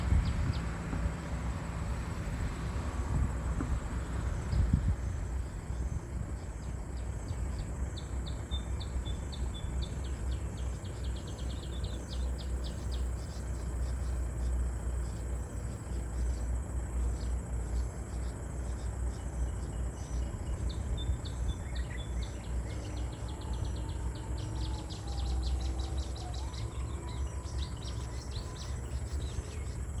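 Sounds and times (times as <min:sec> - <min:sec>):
insects chirping: 0:00.0 - 0:30.0.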